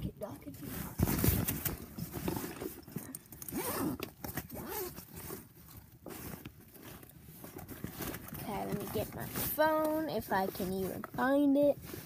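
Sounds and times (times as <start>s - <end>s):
rustling handling noises: 0.1s - 12.0s.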